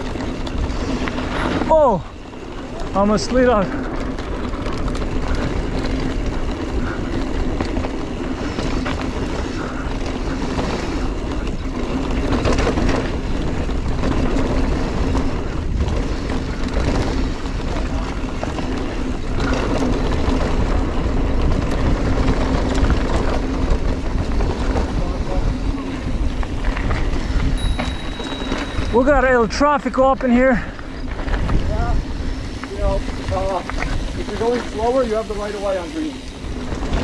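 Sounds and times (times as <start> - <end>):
bike knocks and rattles: 0.0 - 37.0
bike tyres rolling over dirt: 0.0 - 37.0
wind rumble on microphone: 0.0 - 37.0.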